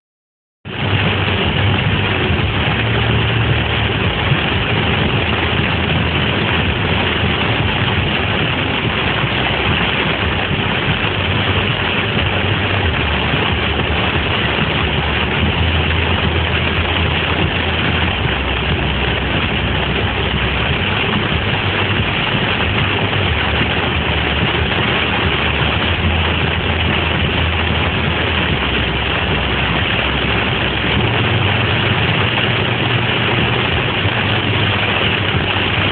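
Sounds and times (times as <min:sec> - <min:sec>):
floodwater rushing: 0:00.7 - 0:35.9.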